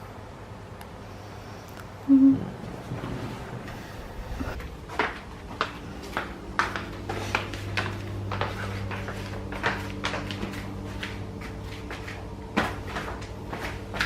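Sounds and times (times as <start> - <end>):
coffee machine humming: 1.1 - 14.0.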